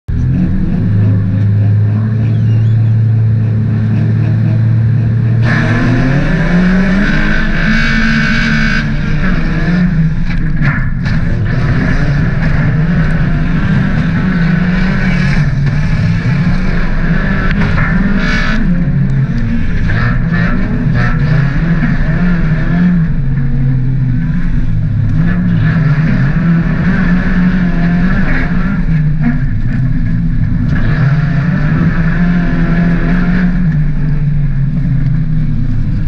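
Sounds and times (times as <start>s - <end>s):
road noise: 0.0s - 36.0s
car engine revving: 0.1s - 36.0s.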